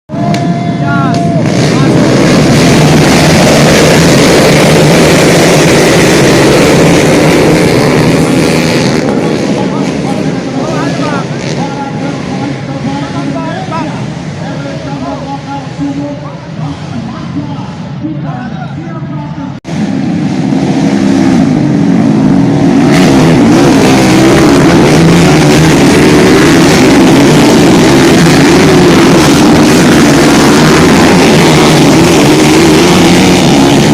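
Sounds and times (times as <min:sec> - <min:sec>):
motorcycle engines running: 0:00.1 - 0:33.9.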